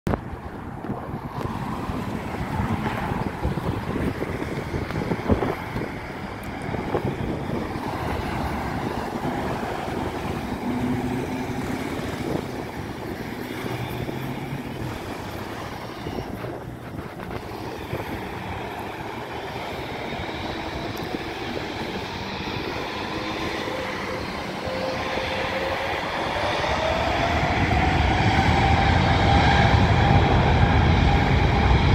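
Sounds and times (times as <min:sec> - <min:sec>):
jet engines spooling up: 0:00.4 - 0:31.9.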